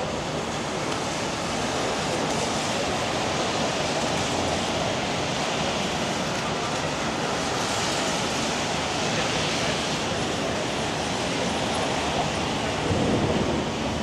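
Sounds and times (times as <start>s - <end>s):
rain on pavement: 0.0s - 14.0s
traffic on wet street: 0.0s - 14.0s.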